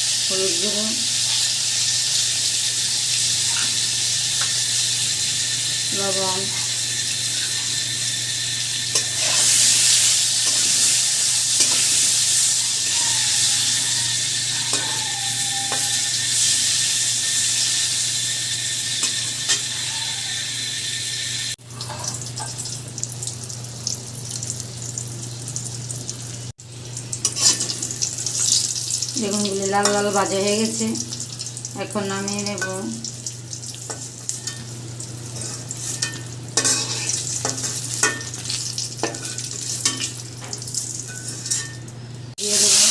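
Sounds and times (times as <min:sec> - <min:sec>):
slices sizzling in hot oil: 0:00.0 - 0:42.9.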